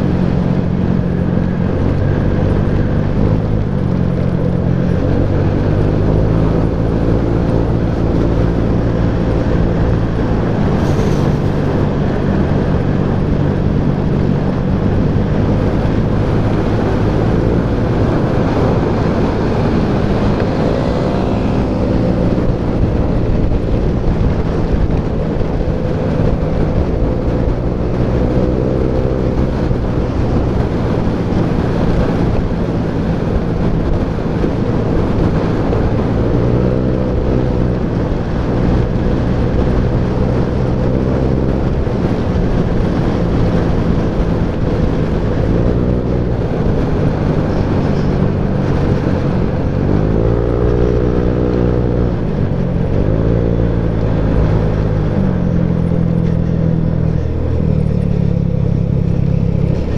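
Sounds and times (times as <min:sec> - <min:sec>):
road rush: 0:00.0 - 0:59.9
wind rush: 0:00.0 - 0:59.9.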